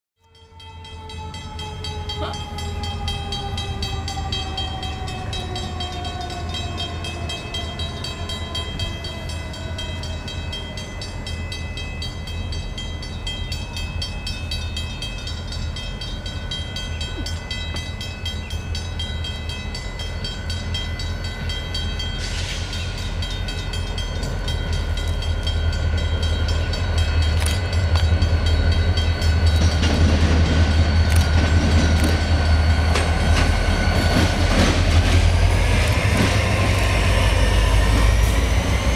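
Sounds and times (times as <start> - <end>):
diesel locomotive rumbling: 0.4 - 38.9.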